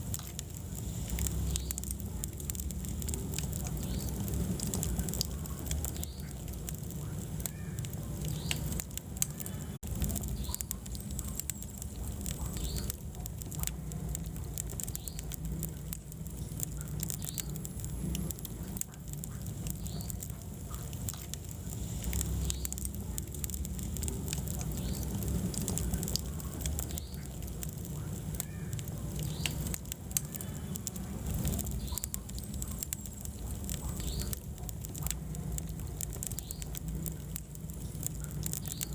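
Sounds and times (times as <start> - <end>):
fire crackling and popping: 0.0 - 38.9
fire flames rumbling: 0.0 - 38.9.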